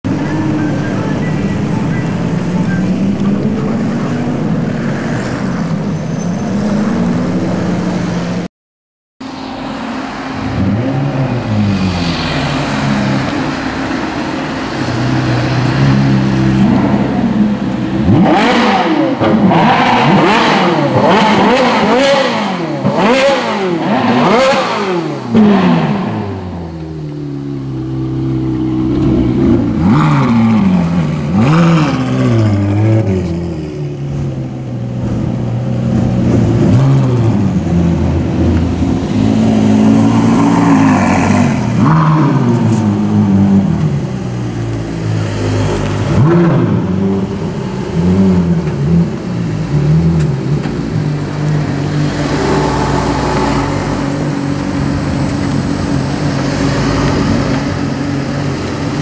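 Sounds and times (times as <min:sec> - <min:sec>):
sports car engine revving: 0:10.4 - 0:59.0.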